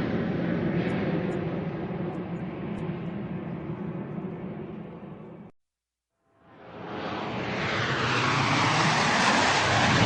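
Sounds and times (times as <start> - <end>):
airplane low rumble overhead: 0.0 - 5.6, 6.4 - 10.0.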